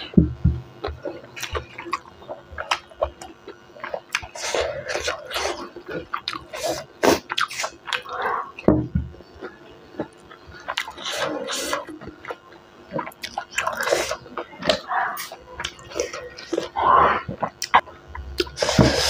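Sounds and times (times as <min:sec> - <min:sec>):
wet chewing and lip-smacking: 0:00.8 - 0:08.7, 0:09.4 - 0:18.8.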